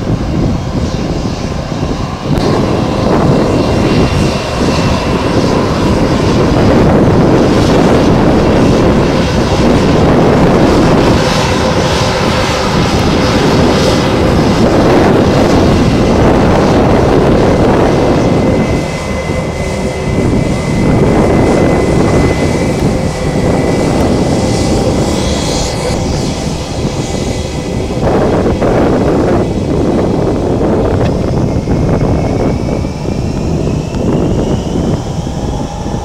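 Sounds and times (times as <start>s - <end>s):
aircraft engines rushing: 0.0s - 36.0s.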